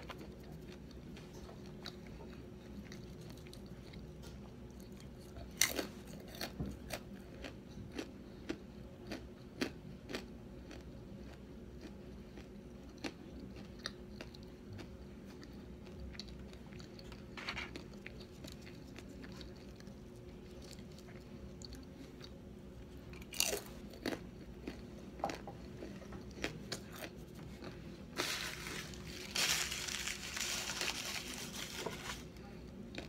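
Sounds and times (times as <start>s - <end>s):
person chewing crisp food: 0.0s - 33.0s.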